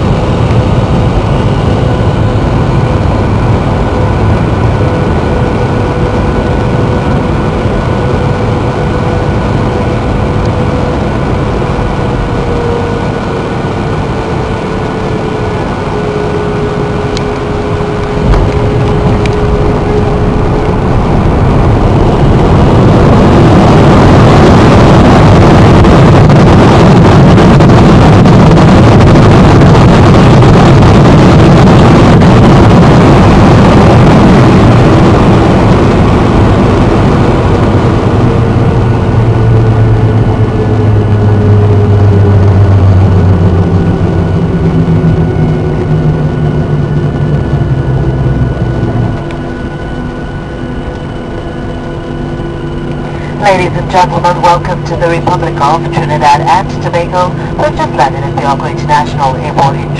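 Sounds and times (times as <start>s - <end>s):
jet engine hum in cabin: 0.0s - 59.9s
reverse thrust roar: 0.0s - 59.9s.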